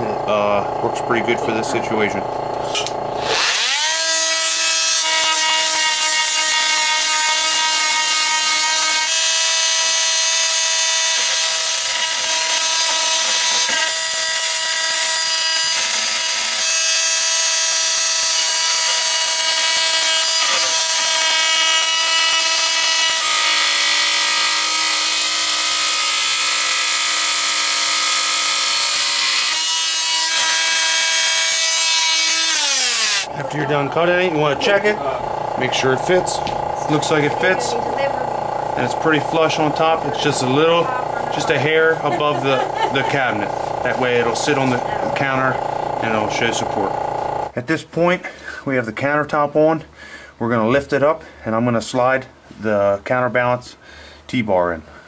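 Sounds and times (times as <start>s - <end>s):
multi-tool cutting wood: 1.0s - 47.6s.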